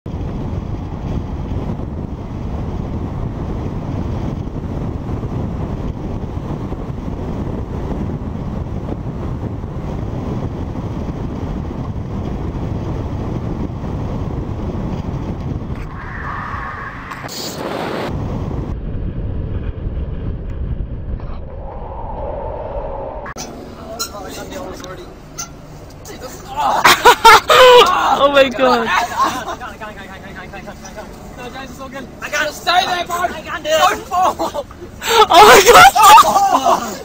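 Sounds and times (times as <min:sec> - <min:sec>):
low road noise rumble: 0:00.1 - 0:37.0
wind buffeting microphone: 0:00.1 - 0:37.0.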